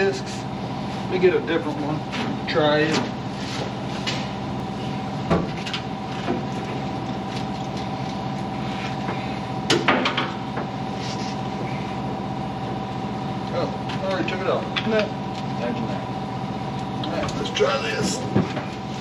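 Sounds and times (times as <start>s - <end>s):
shop machine humming: 0.0s - 19.0s.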